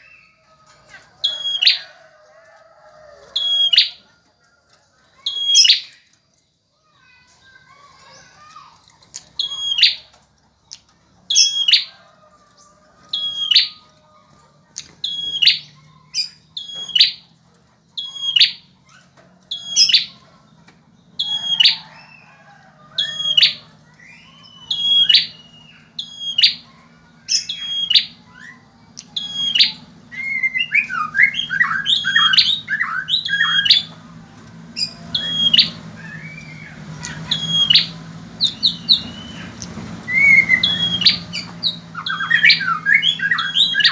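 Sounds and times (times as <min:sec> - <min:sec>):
bird chirps: 0:00.0 - 0:02.1, 0:03.2 - 0:04.2, 0:05.2 - 0:06.2, 0:06.9 - 0:12.0, 0:12.6 - 0:14.0, 0:14.7 - 0:17.3, 0:17.9 - 0:43.9
bird singing sharp calls: 0:00.0 - 0:02.1, 0:03.2 - 0:04.1, 0:05.2 - 0:06.2, 0:06.9 - 0:12.0, 0:12.6 - 0:14.0, 0:14.7 - 0:17.3, 0:17.9 - 0:43.9.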